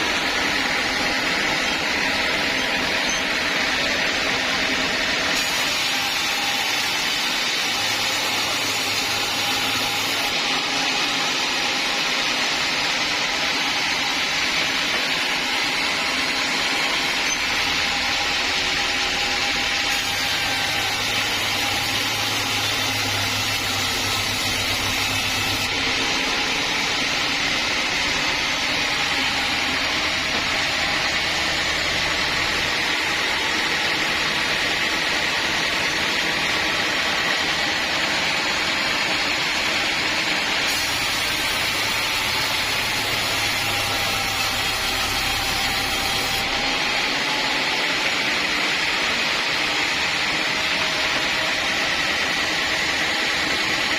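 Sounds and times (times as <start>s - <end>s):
sawmill saw running: 0.0s - 53.9s.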